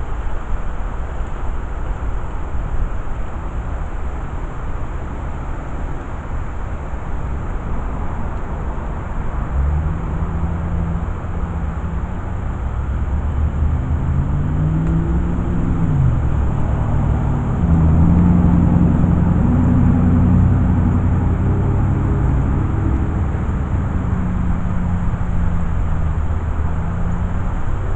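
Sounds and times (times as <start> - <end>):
vehicle engine rumbling: 0.0 - 27.9.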